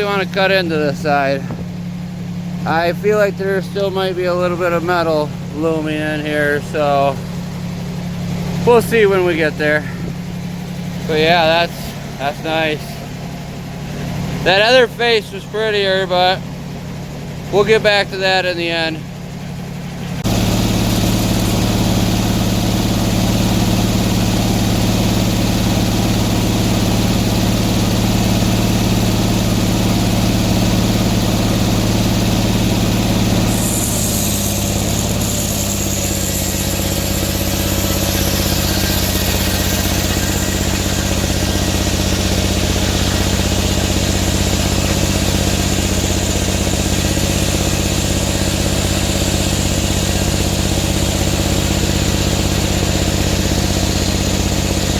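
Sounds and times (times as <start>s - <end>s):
sawmill engine running: 0.0s - 54.9s
saw blade whining through wood: 2.6s - 16.4s, 20.2s - 54.9s.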